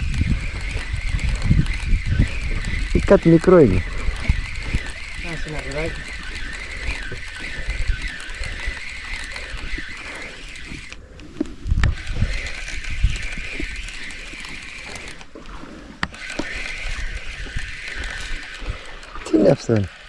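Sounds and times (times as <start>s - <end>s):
sharp clicks: 0.0s - 19.9s
fishing reel gears whirring: 0.0s - 20.0s
wind and surf rumbling: 0.0s - 20.0s.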